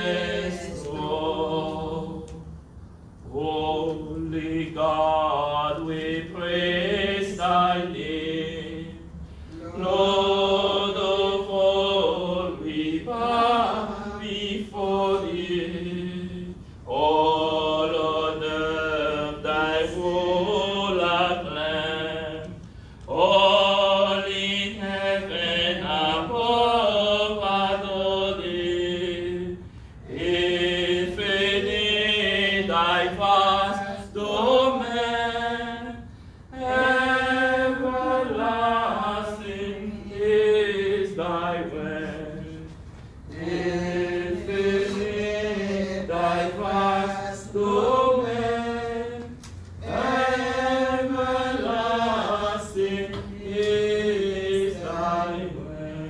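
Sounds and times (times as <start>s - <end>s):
hymn singing: 0.0s - 56.0s.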